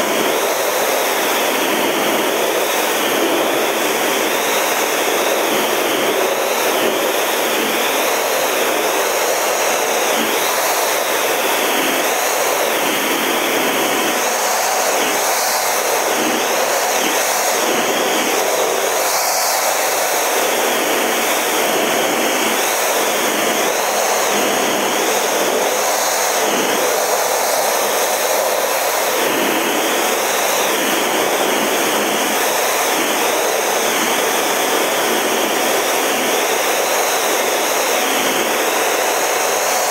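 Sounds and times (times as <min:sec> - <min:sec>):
high wavering whine: 0:00.0 - 0:39.9
jet cockpit rushing noise: 0:00.0 - 0:39.9.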